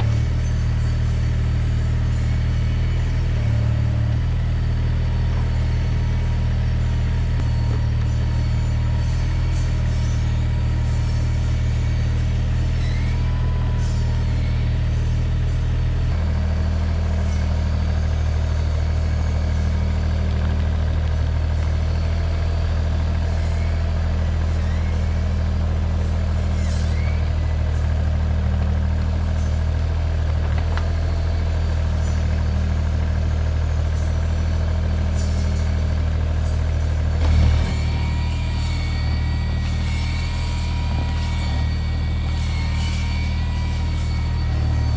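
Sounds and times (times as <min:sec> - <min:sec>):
excavator engine droning: 0:00.0 - 0:44.9.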